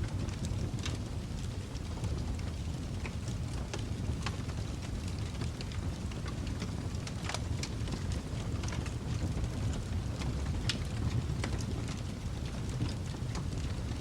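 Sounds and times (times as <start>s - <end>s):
fire crackling and popping: 0.0s - 14.0s
wood fire rumbling: 0.0s - 14.0s.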